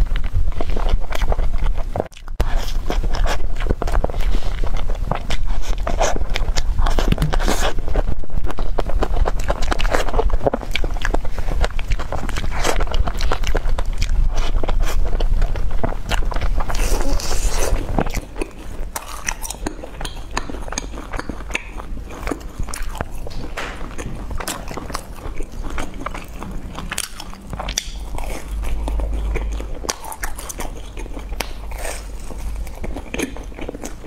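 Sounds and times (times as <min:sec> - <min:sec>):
person chewing with wet smacks: 0:00.0 - 0:34.0.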